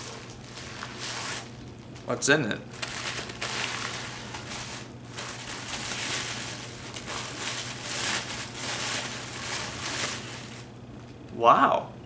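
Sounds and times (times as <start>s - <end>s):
paper and packaging rustling: 0.0s - 10.8s.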